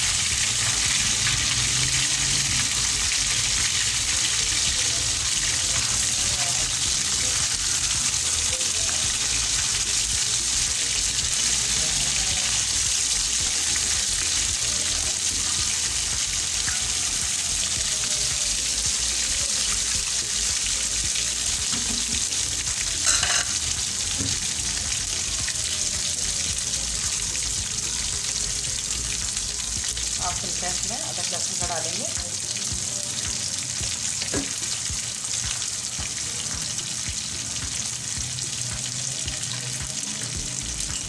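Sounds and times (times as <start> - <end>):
meat sizzling in hot oil: 0.0 - 41.0.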